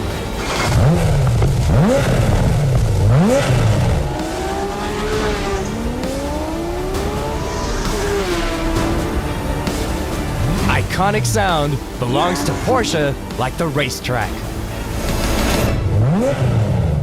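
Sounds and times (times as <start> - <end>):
car engine revving hard: 0.2 - 13.1, 15.2 - 17.0.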